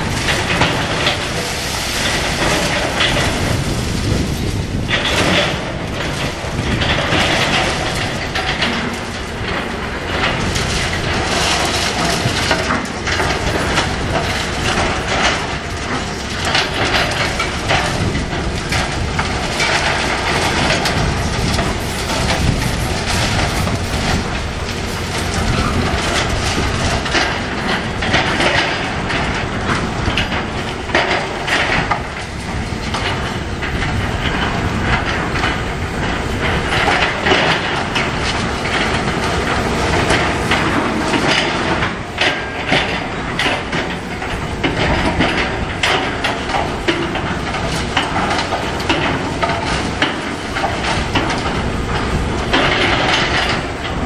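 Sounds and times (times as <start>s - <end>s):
concrete clanking and crunching: 0.0s - 54.0s
excavator engine running: 0.0s - 54.0s.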